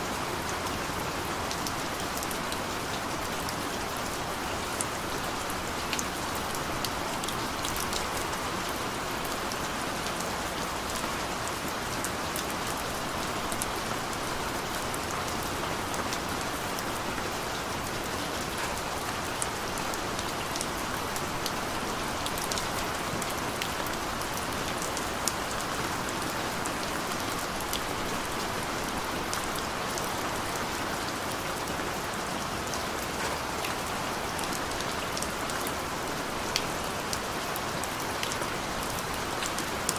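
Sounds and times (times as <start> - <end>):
steady rain hiss: 0.0 - 39.9
raindrops ticking on a surface: 0.1 - 39.9.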